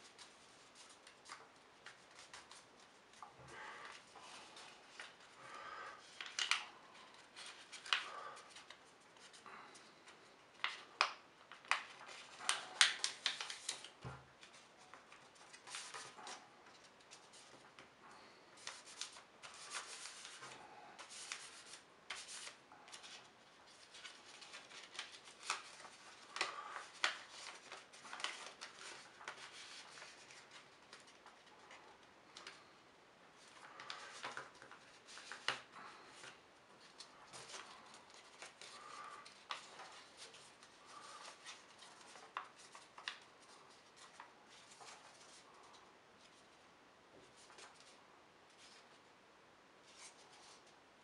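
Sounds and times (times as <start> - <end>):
paper rustling and creasing: 0.0 - 10.0, 10.6 - 32.7, 33.4 - 46.6, 47.2 - 49.0, 49.8 - 50.8.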